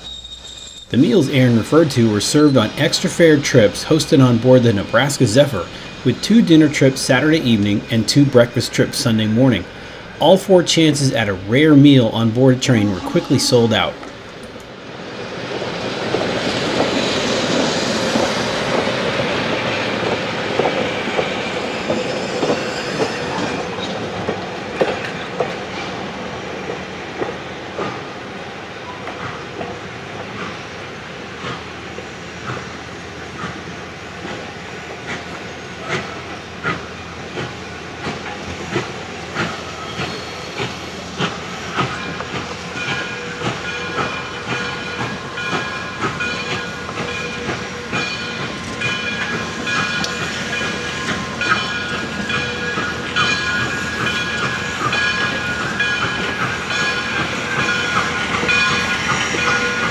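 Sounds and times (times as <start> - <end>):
wheels clickety-clack on rail joints: 0.0 - 12.6, 14.0 - 59.9
train rolling along track: 0.0 - 59.9.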